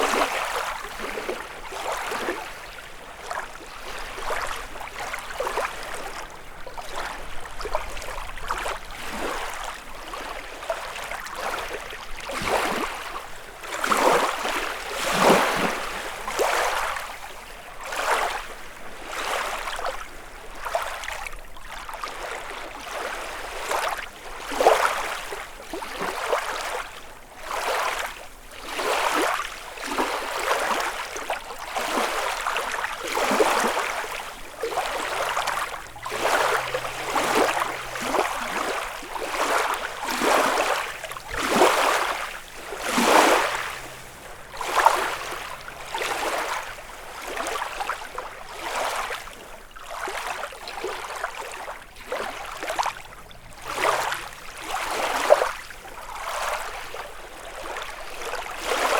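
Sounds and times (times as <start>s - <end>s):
lake waves lapping shore: 0.0s - 58.9s.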